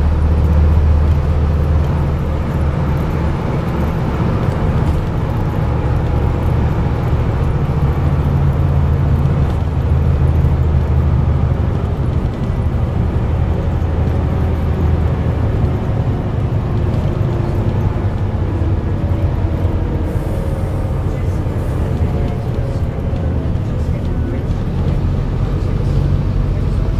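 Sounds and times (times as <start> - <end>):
bus engine drone inside cabin: 0.0 - 26.9
road noise: 0.0 - 26.9.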